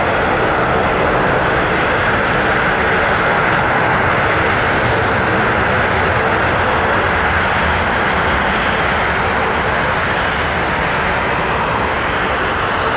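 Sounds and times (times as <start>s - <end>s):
jet engines at climb power: 0.0s - 12.9s.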